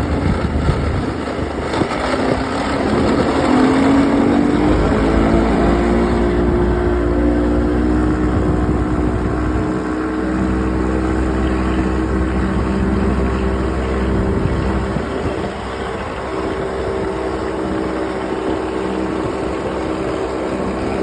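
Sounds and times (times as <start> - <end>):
engine grinding noise: 0.0 - 21.0
outboard engine running: 0.0 - 21.0.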